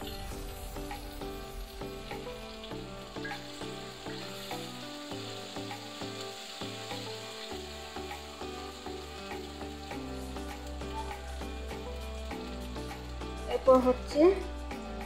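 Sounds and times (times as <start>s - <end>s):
background music: 0.0s - 15.0s
onions sizzling in oil: 0.0s - 15.0s.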